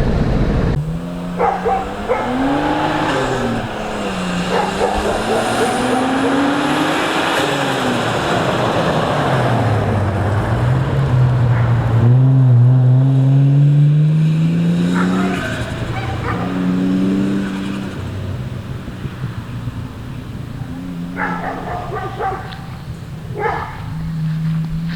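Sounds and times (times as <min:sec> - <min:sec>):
engine accelerating: 0:00.0 - 0:24.9.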